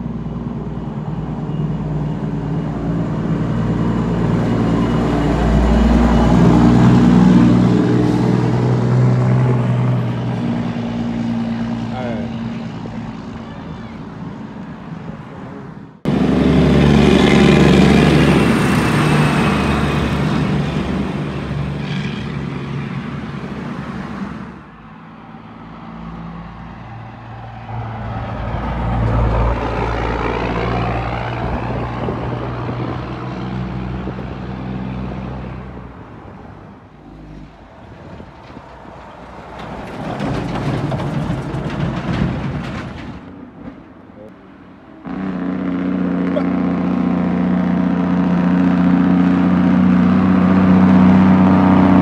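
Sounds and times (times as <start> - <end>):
diesel trucks driving past: 0.0 - 52.0.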